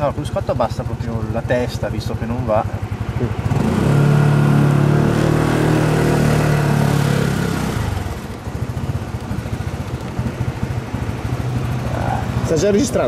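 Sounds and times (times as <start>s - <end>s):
scooter engine under throttle: 0.0s - 13.0s.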